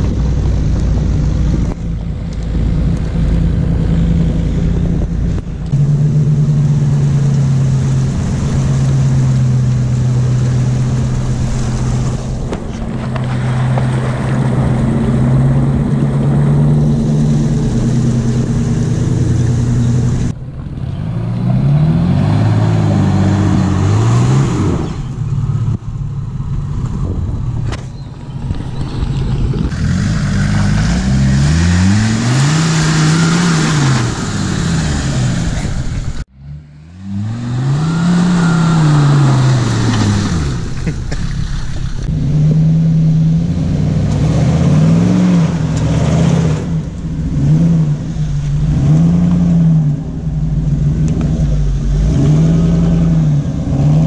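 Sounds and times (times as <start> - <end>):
off-road engines revving: 0.0 - 54.0.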